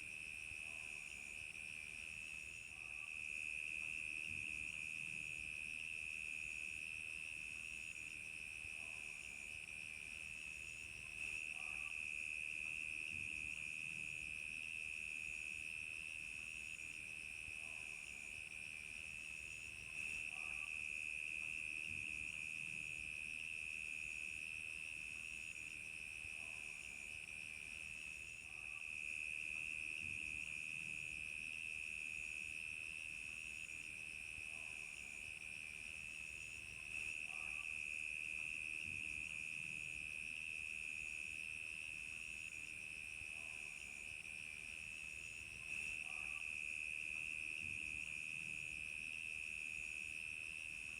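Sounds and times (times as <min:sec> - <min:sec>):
crickets chirping: 0:00.1 - 0:50.9.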